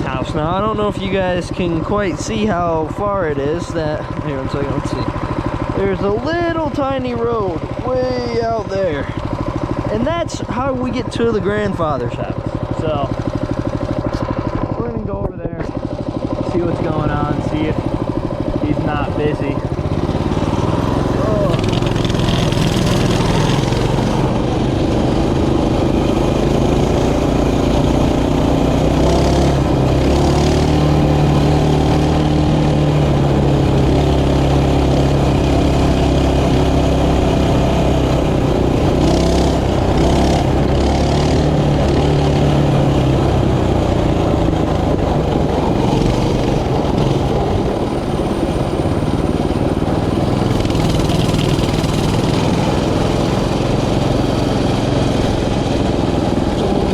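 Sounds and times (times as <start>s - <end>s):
mini bike engine revving: 0.0s - 56.9s.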